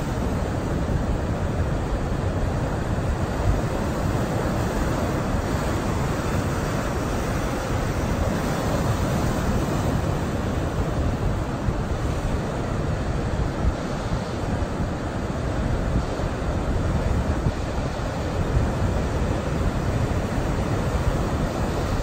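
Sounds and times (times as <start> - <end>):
surf breaking on shore: 0.0 - 22.0
wind rumbling on microphone: 0.0 - 22.0.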